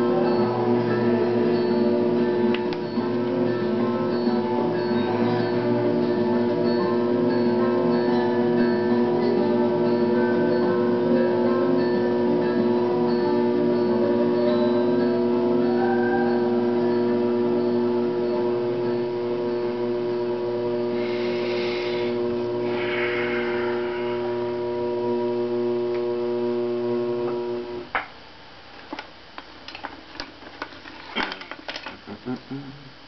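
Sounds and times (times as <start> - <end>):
steady fixed-pitch hum: 0.0 - 27.9.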